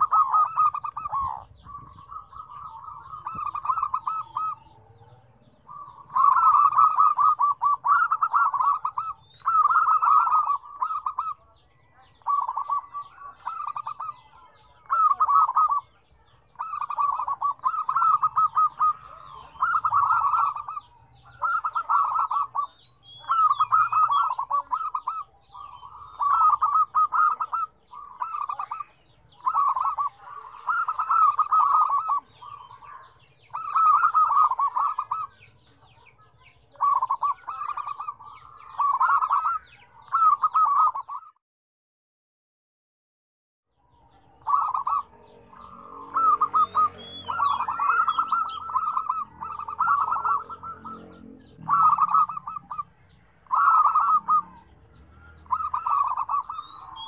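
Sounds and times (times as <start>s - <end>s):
doves cooing: 0.0s - 41.3s, 43.9s - 57.0s.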